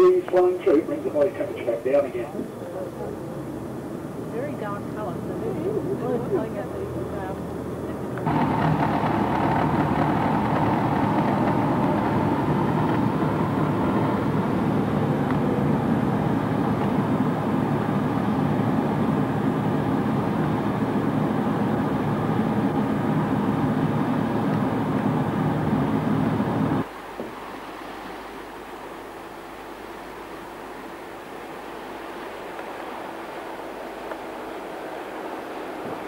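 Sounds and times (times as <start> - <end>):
vehicle engine drone: 0.0 - 36.0.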